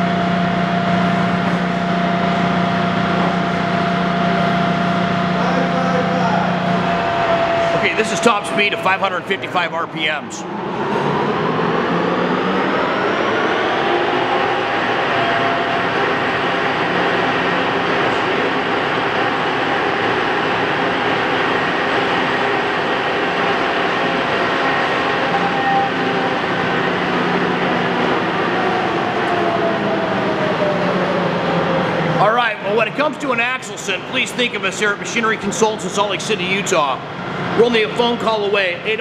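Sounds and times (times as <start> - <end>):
lathe whine: 0.0 - 39.0
lathe whirring and rumbling: 0.0 - 39.0.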